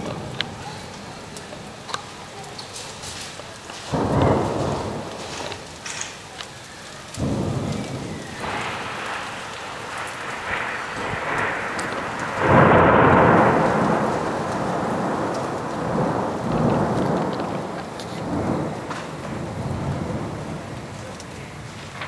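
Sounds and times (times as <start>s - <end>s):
thunder rumbling: 0.0s - 22.0s.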